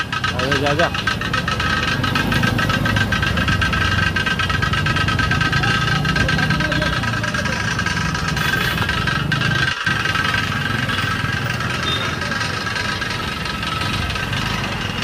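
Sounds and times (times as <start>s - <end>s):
auto-rickshaw engine running: 0.0s - 15.0s.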